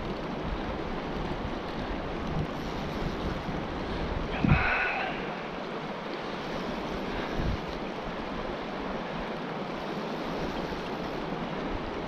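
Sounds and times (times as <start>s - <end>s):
river rushing over riffle: 0.0s - 12.0s.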